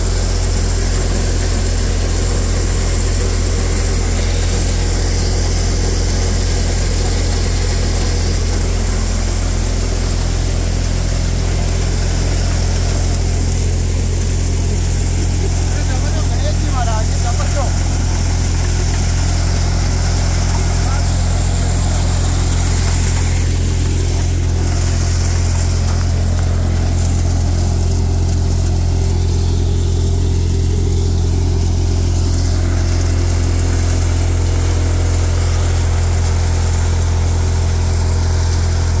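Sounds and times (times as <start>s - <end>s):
thresher machine droning: 0.0s - 39.0s.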